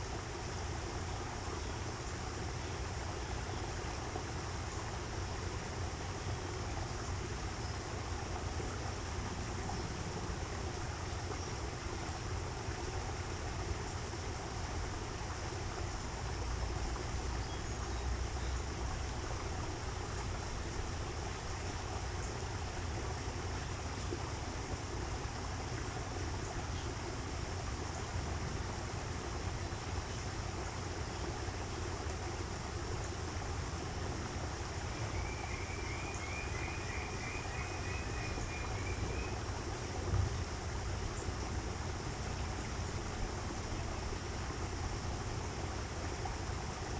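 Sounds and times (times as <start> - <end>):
running water stream: 0.0 - 46.9.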